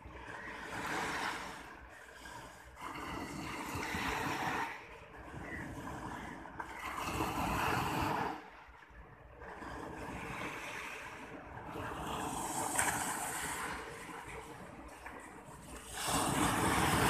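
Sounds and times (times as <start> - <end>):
sea waves breaking on sand: 0.0 - 17.0
wind on microphone: 0.0 - 17.0.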